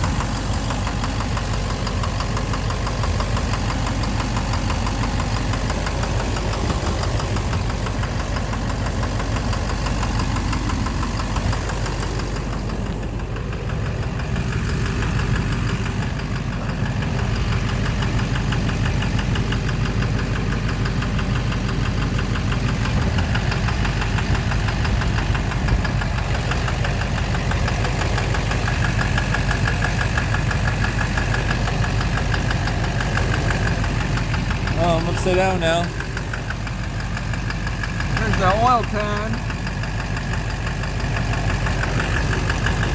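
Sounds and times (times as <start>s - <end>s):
diesel engine idling with knock: 0.0s - 42.9s.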